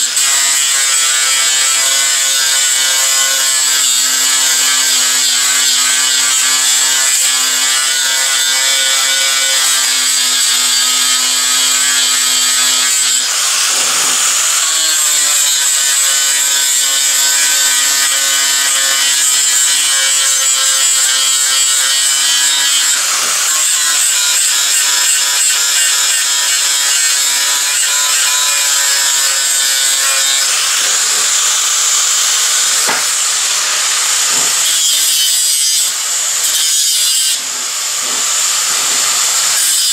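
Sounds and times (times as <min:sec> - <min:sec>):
angle grinder grinding steel: 0:00.0 - 0:39.9.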